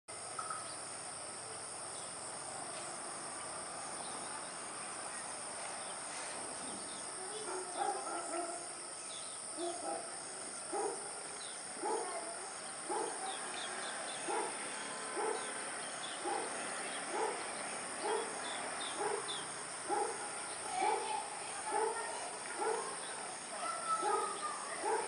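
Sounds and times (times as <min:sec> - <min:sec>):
steady hiss: 0:00.1 - 0:25.0
small birds chirping: 0:01.5 - 0:25.0.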